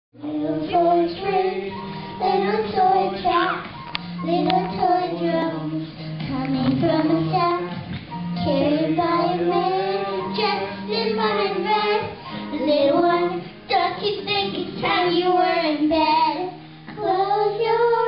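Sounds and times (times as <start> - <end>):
girls singing: 0.2 - 18.0
low instrumental accompaniment: 0.2 - 18.0.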